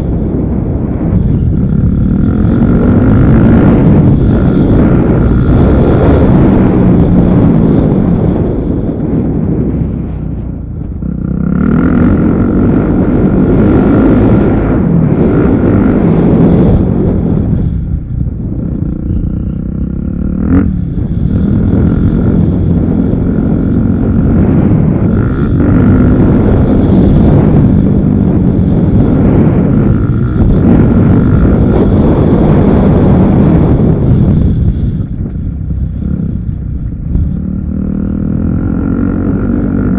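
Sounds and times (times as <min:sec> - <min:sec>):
motorcycle engine under throttle: 0:00.0 - 0:39.9.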